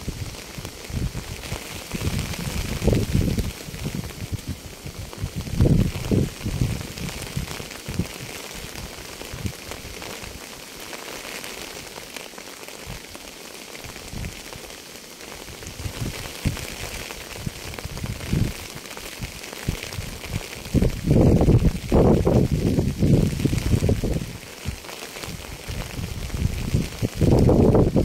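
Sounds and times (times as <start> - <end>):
heavy raindrops thudding: 0.0 - 28.0
steady rain hiss: 0.0 - 28.0.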